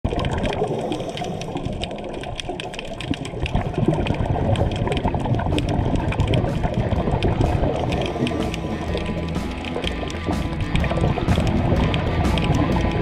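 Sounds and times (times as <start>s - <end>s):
underwater rushing and bubbling: 0.0s - 13.0s.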